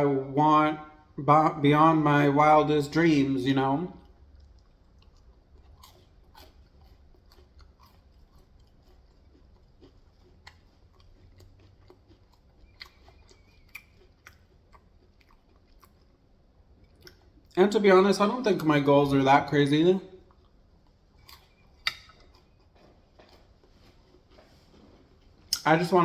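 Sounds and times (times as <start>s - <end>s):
person chewing: 3.9s - 18.9s, 19.5s - 26.0s.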